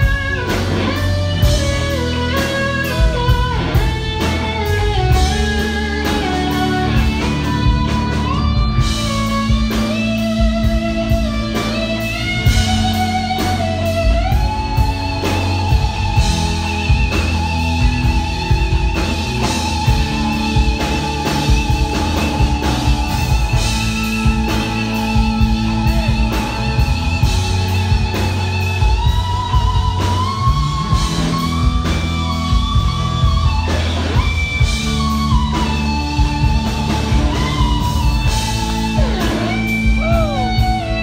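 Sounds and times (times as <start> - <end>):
bass guitar: 0.0 - 41.0
drums: 0.0 - 41.0
electric guitar solo: 0.0 - 41.0.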